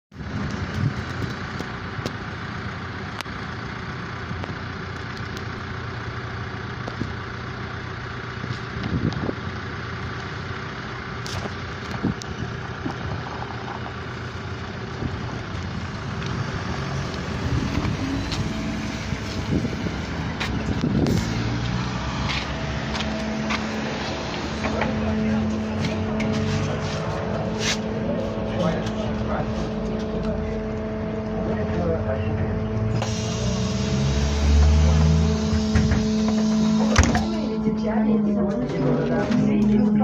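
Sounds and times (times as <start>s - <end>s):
street traffic: 0.1s - 40.0s
trolleybus passing: 0.1s - 40.0s.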